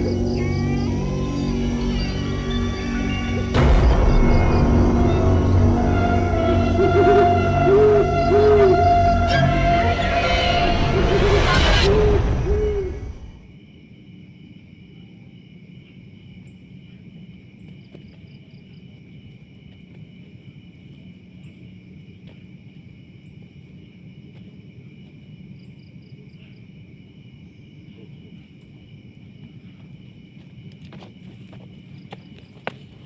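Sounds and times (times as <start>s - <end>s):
low background rumble: 0.0s - 32.9s
crickets and insects trilling: 0.0s - 33.0s.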